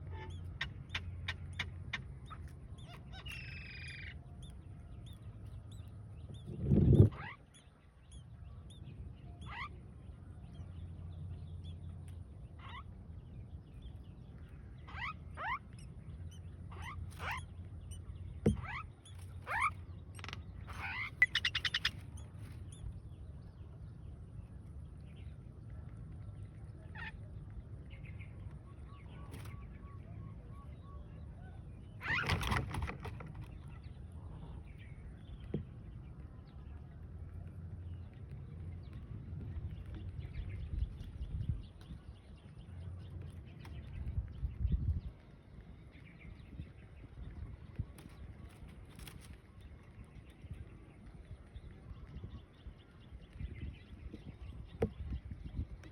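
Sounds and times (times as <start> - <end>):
low steady hum: 0.0 - 32.1, 33.4 - 55.9
bird chirping: 0.0 - 55.9.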